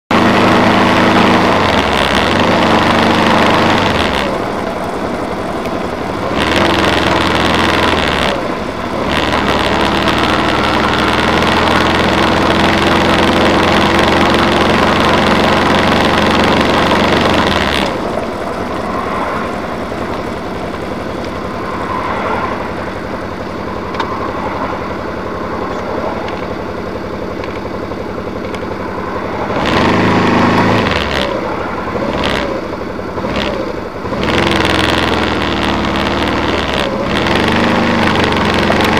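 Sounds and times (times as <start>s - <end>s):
car engine hum: 0.1s - 38.9s
road noise: 0.1s - 38.9s.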